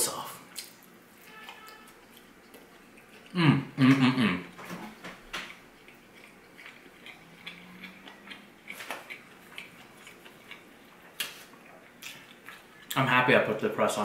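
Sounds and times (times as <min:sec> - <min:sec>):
person chewing: 0:00.5 - 0:13.0.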